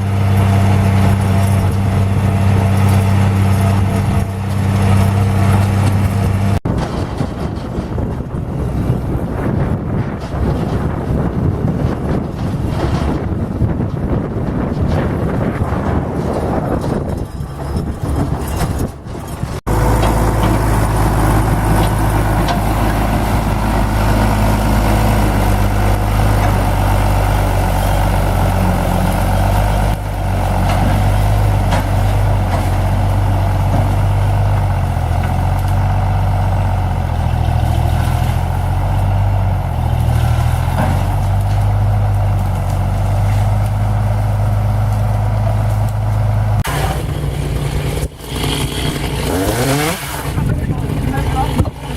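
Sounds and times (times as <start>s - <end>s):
tractor engine running: 0.0s - 51.9s
wind noise on microphone: 0.0s - 51.9s.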